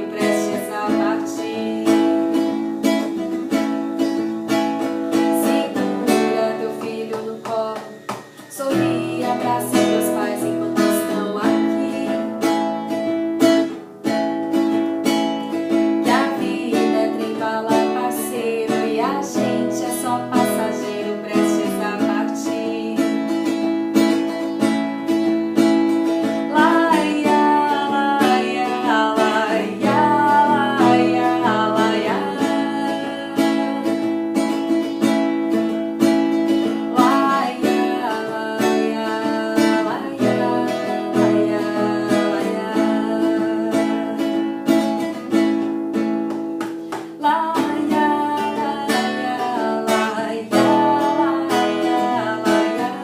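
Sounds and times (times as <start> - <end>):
acoustic guitar strummed and picked: 0.0 - 53.0.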